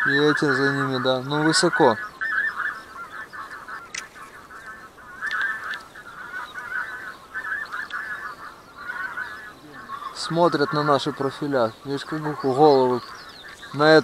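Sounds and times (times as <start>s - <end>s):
geese honking in flight: 0.0s - 14.0s.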